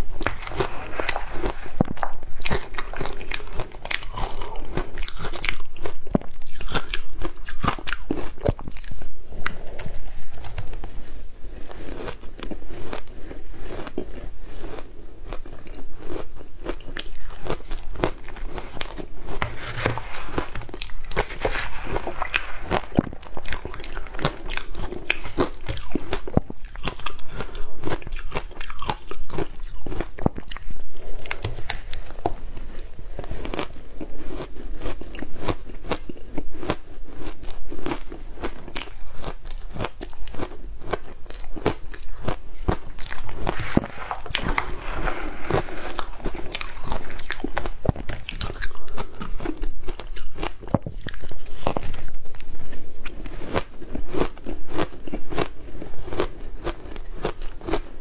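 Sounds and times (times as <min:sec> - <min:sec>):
chewing shaved ice: 0:00.0 - 0:58.0.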